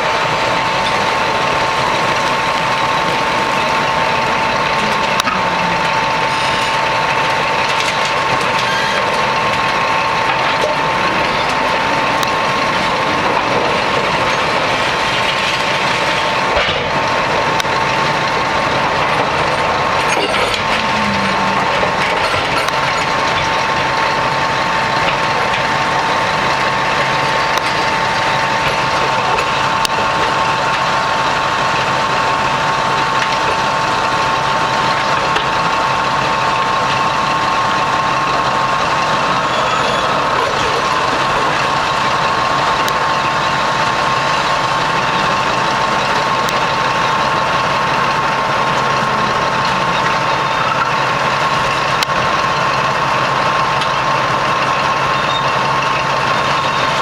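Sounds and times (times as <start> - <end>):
excavator and haul truck engines: 0.0 - 57.0
high machine whine: 0.0 - 57.0.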